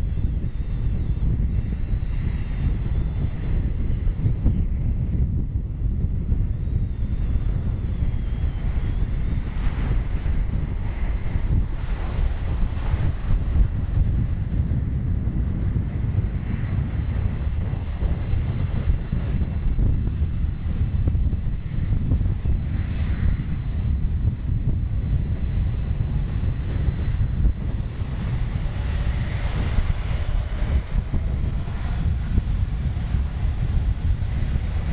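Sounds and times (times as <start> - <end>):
faint high whine: 0.0 - 34.9
jet engines rumbling: 0.0 - 34.9.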